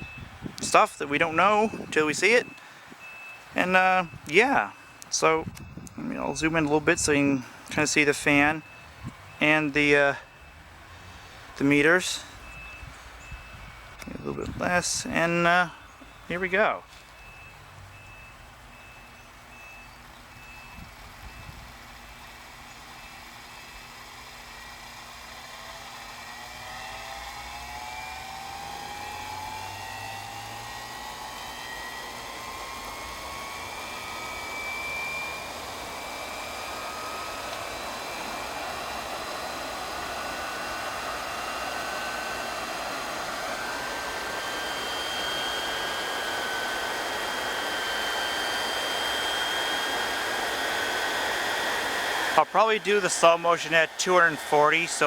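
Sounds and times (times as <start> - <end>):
air noise from fan blades: 0.0 - 55.0
motor whine rising in pitch: 0.0 - 55.0.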